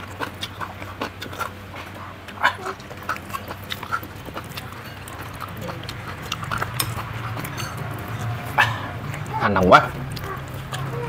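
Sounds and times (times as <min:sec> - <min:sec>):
chewing and lip smacks: 0:00.0 - 0:11.0.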